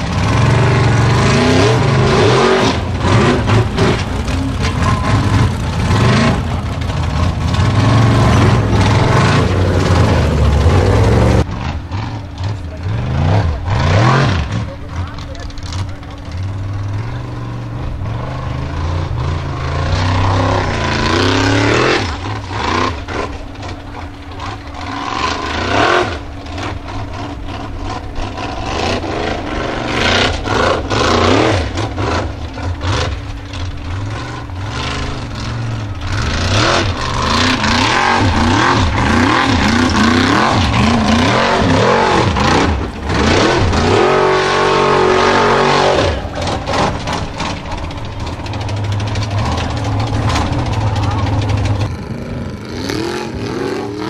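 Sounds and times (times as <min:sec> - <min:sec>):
buggy engine revving hard: 0:00.0 - 0:54.0.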